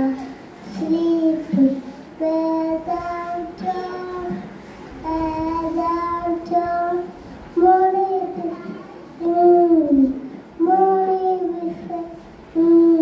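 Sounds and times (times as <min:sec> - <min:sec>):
boy singing: 0:00.0 - 0:13.0.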